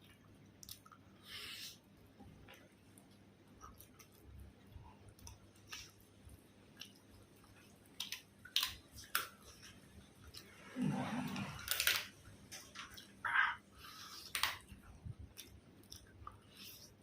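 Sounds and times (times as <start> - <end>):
crunches of eating: 0.0 - 17.0
person chewing food: 0.0 - 17.0.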